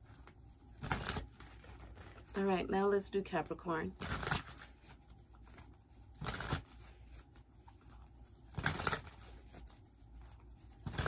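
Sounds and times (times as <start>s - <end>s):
cards being shuffled: 0.0s - 2.3s, 4.0s - 11.0s.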